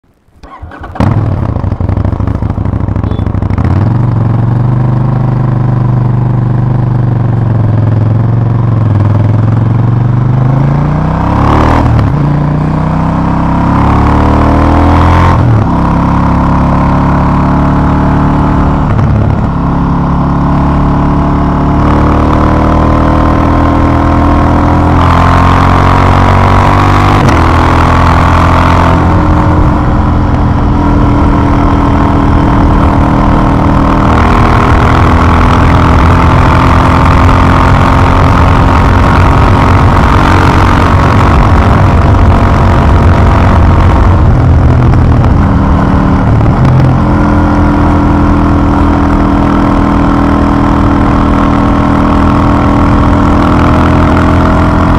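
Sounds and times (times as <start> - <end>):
motorcycle engine revving: 0.4 - 54.9.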